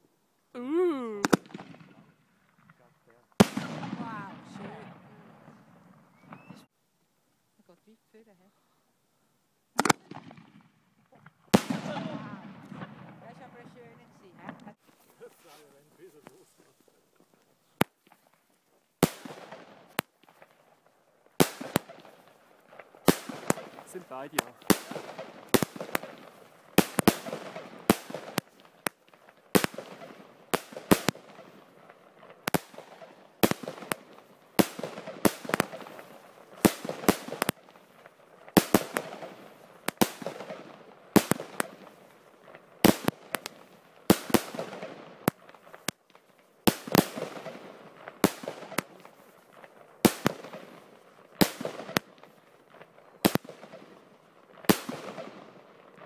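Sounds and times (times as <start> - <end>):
fireworks banging: 1.1 - 6.7, 9.7 - 56.0
fireworks hiss and crackle: 1.2 - 56.0.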